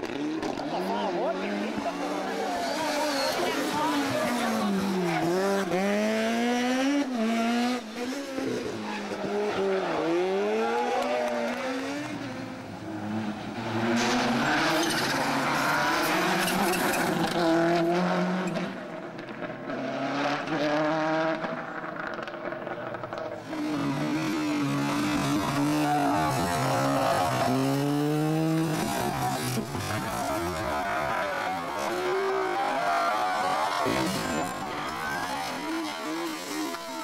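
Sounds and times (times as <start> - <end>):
rally car engines revving: 0.0 - 37.0.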